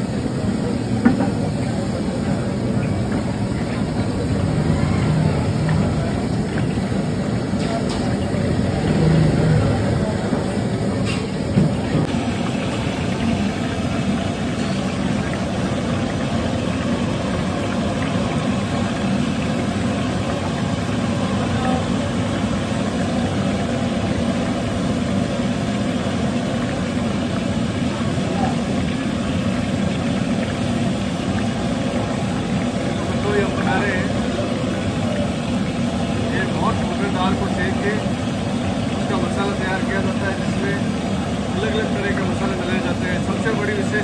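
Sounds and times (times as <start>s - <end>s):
food frying in oil: 0.0s - 44.0s
gas burner roaring: 0.0s - 44.0s.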